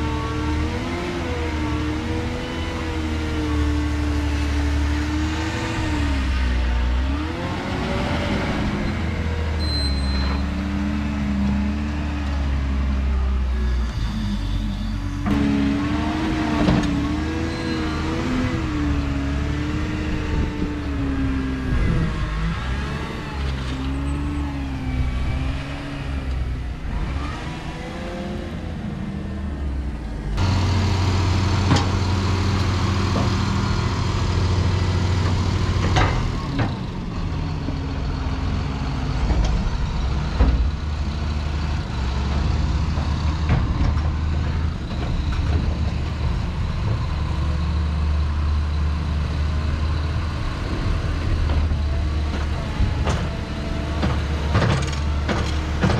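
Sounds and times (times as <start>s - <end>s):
diesel engine revving: 0.0s - 55.9s
heavy diesel engines running: 0.0s - 55.9s
trailer tipping silage: 0.1s - 55.9s.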